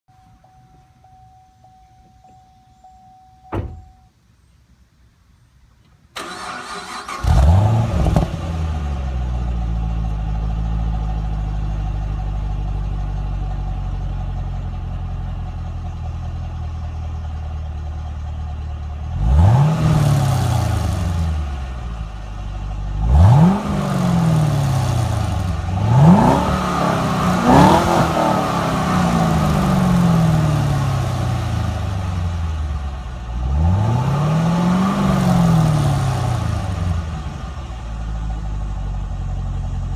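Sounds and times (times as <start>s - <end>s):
car engine idling and revving: 6.2s - 39.9s.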